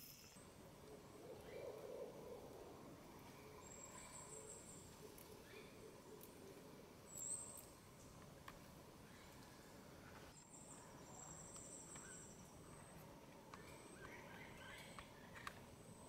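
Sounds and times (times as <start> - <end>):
faint forest ambience: 0.0 - 16.0.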